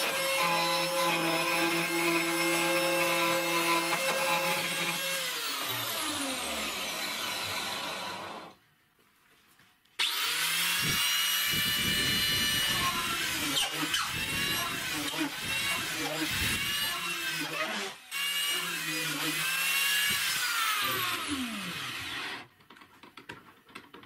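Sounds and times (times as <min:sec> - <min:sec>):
drill whining: 0:00.0 - 0:08.6, 0:10.0 - 0:22.5.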